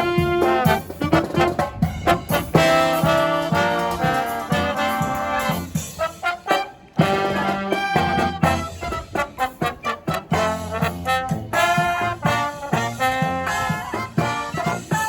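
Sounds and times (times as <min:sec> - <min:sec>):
brass band playing jazz: 0:00.0 - 0:15.0.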